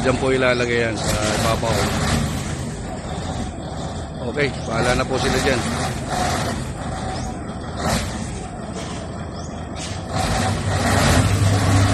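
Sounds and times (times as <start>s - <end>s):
diesel truck engine running: 0.0s - 11.9s.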